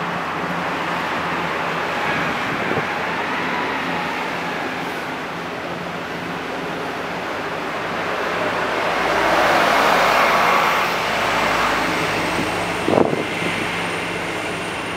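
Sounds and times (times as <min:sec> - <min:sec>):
ferry engine drone: 0:00.0 - 0:14.9
rushing noise: 0:00.0 - 0:14.9.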